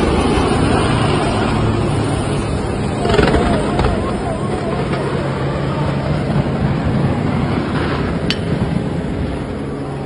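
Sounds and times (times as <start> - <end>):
helicopter rotor and engine: 0.0 - 10.0.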